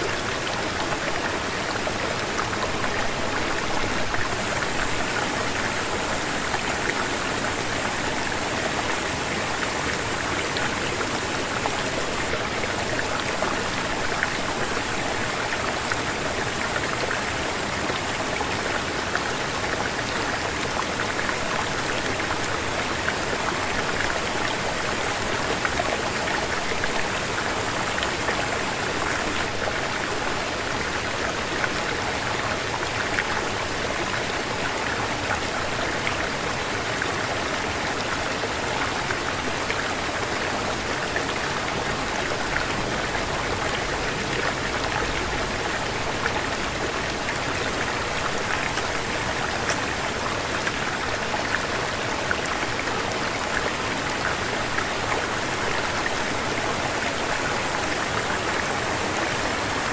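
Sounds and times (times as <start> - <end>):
stream cascading over rocks: 0.0 - 59.9.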